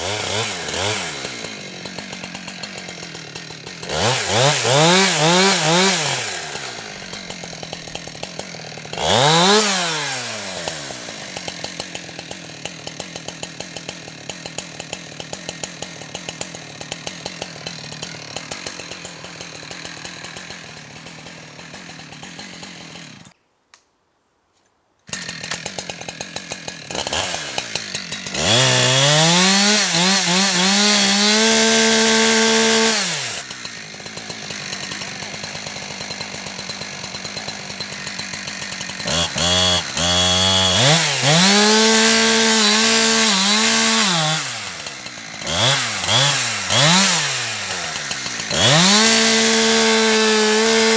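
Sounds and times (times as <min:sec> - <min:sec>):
chainsaw revving and idling: 0:00.0 - 0:23.4, 0:25.1 - 0:50.9.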